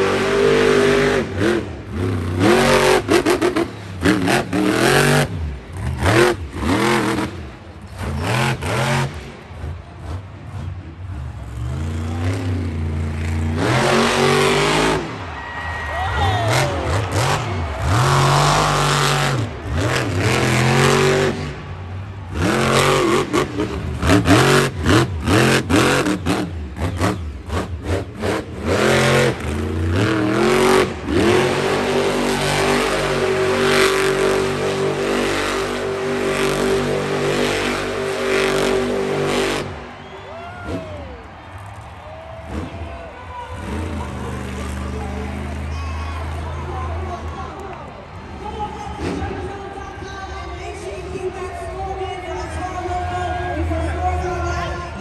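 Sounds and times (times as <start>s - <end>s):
truck engine revving hard: 0.0s - 15.4s, 16.2s - 41.5s, 42.4s - 47.4s.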